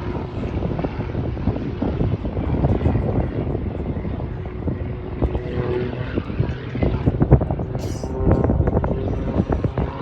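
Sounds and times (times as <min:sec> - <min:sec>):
airplane engine rumble: 0:00.0 - 0:10.0.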